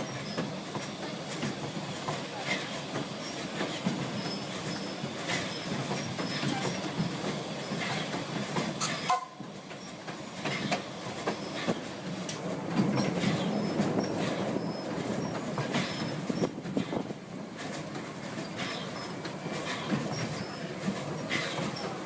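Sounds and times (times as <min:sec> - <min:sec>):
steam train rumble: 0:00.0 - 0:22.0
wheels clicking over rails: 0:00.0 - 0:22.0.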